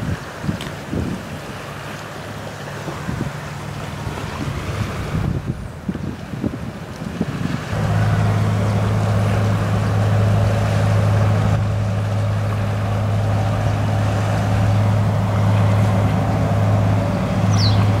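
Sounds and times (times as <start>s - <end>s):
ship engine droning: 0.0s - 18.0s.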